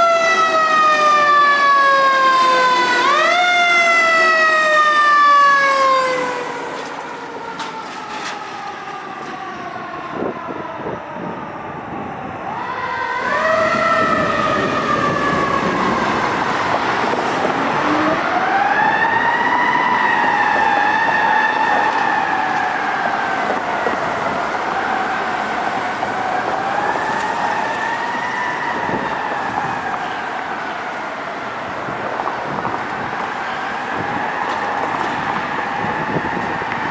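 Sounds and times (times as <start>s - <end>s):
passing truck noise: 0.0s - 10.3s, 12.4s - 36.9s
fire truck siren wailing: 0.0s - 36.9s.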